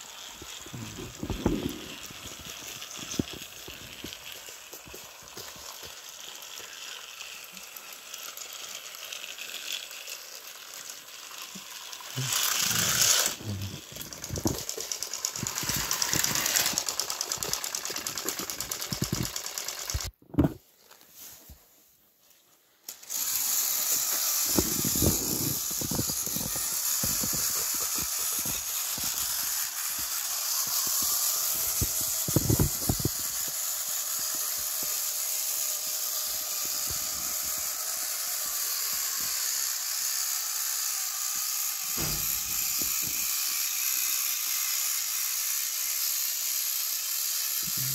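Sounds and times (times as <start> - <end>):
toy train motors whirring: 0.0 - 20.2, 22.2 - 47.9.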